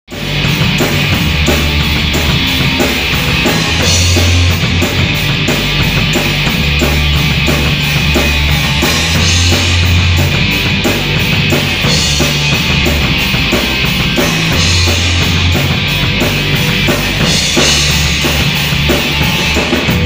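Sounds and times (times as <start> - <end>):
bass guitar notes: 0.1 - 20.0
drum kit beat: 0.1 - 20.0
rock band playing live: 0.1 - 20.0.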